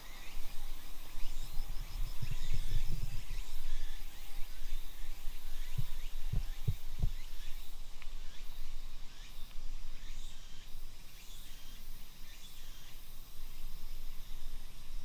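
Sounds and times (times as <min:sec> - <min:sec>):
faint insect hum: 0:00.0 - 0:15.0.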